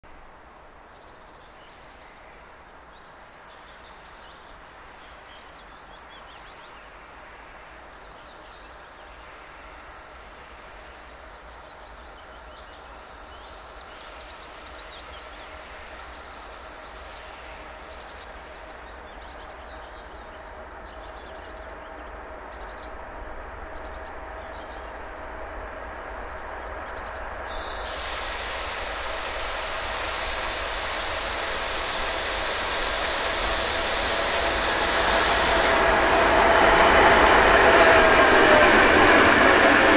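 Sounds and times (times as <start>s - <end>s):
diesel locomotive engine: 3.1s - 39.9s.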